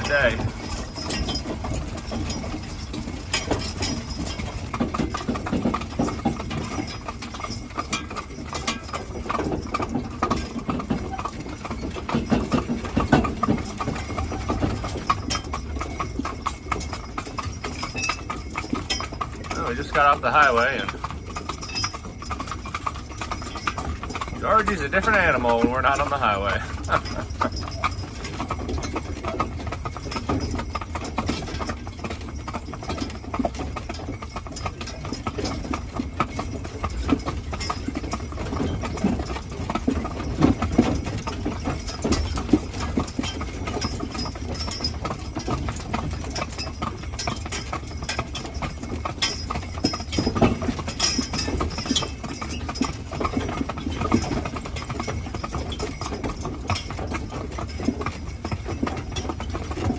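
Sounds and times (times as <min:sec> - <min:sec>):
horse hooves clip-clopping: 0:00.0 - 0:59.9
wagon rumbling: 0:00.0 - 0:59.9.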